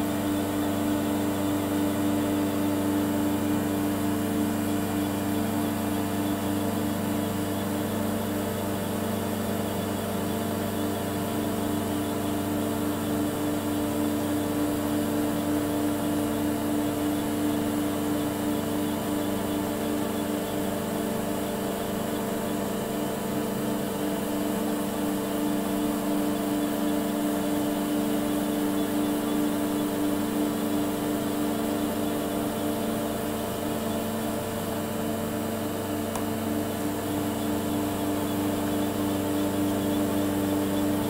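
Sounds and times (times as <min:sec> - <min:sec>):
machine steady mechanical hum: 0:00.0 - 0:41.0.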